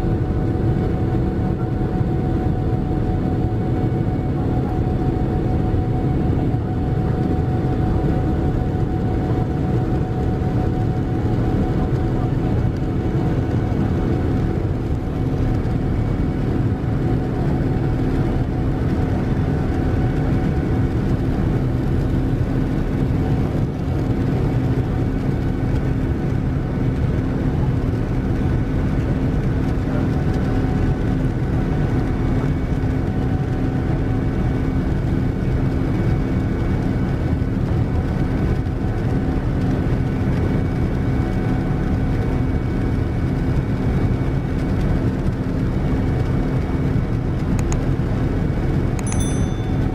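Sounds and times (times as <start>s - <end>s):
jet engine and air rush in cabin: 0.0s - 49.9s.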